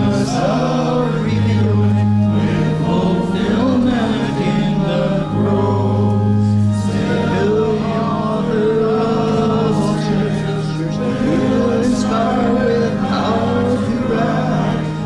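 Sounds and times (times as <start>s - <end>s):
congregation singing a hymn: 0.0s - 15.0s
organ-like low held notes: 0.0s - 15.0s.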